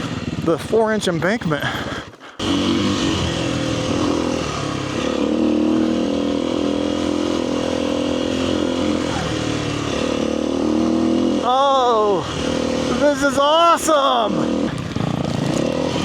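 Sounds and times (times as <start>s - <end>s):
dirt bike engine under throttle: 0.0s - 16.0s
wind and tyre noise: 0.0s - 16.0s.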